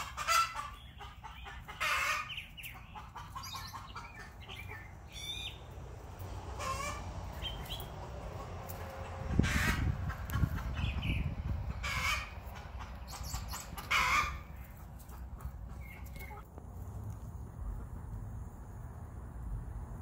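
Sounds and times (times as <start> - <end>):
hens clucking: 0.0 - 16.5.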